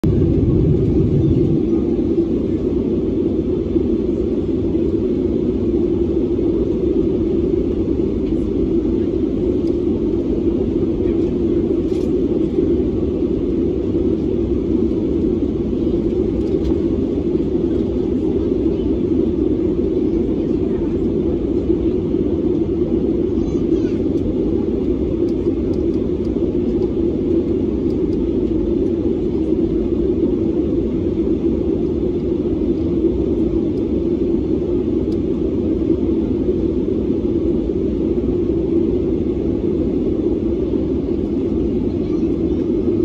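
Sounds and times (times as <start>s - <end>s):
airflow over fuselage: 0.0s - 43.0s
airliner cabin engine rumble: 0.0s - 43.0s.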